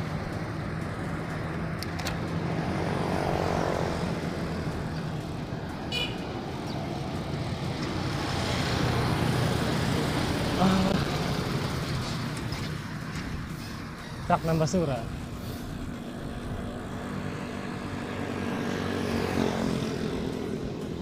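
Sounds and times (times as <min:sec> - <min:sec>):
motor vehicle passing: 0:00.0 - 0:21.0
street traffic: 0:00.0 - 0:21.0.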